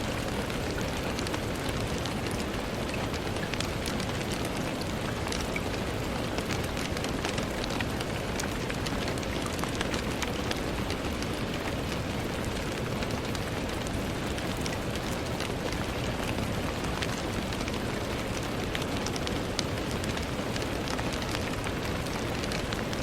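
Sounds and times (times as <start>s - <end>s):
rain ticking on a window: 0.0s - 23.0s.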